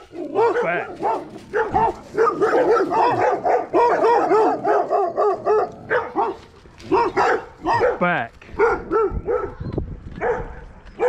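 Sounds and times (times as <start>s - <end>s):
dogs barking rapidly: 0.0s - 11.0s.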